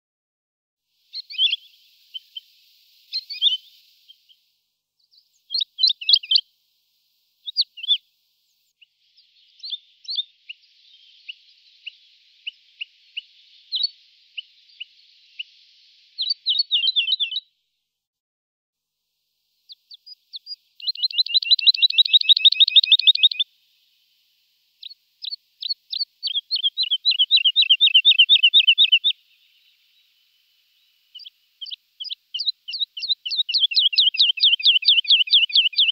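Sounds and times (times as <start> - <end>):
bird singing whistled notes: 1.1 - 6.5, 7.4 - 8.0, 8.6 - 17.6, 19.7 - 23.5, 24.8 - 35.9.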